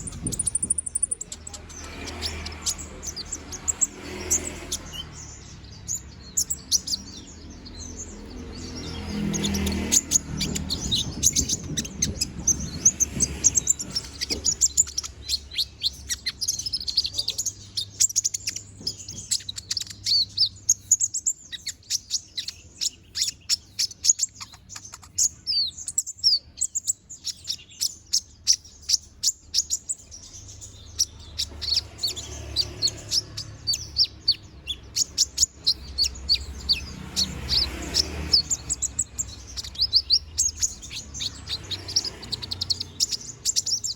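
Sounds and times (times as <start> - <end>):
sunbird singing high chirps: 0.0 - 43.9.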